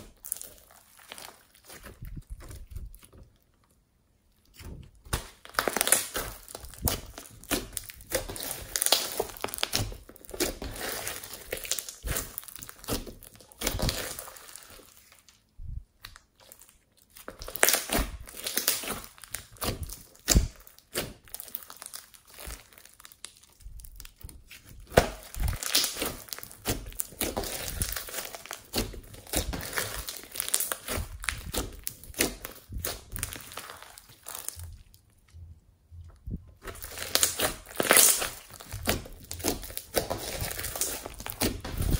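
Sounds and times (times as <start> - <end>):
small wet clicks and crackles: 0.0 - 35.4
slime being kneaded by hand: 0.0 - 41.9.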